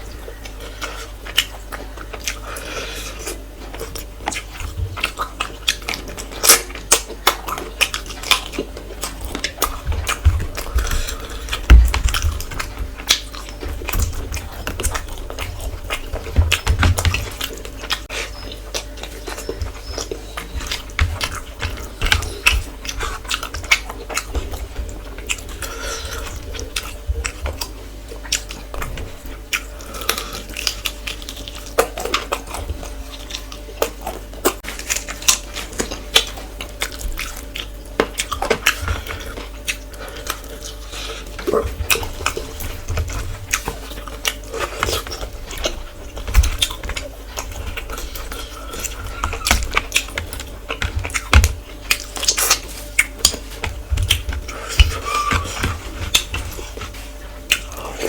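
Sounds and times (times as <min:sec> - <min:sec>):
steady low hum: 0:00.0 - 0:58.0
wet chewing mouth clicks: 0:00.3 - 0:58.0.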